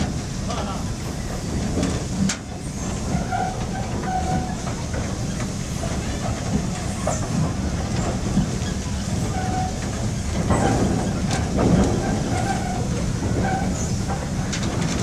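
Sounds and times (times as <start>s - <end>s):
steam locomotive rumble and rattle: 0.0s - 15.0s.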